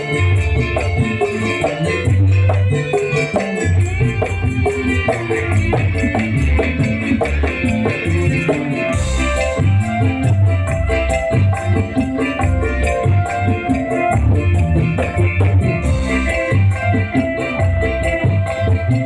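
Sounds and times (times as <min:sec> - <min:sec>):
drum band playing: 0:00.0 - 0:19.0.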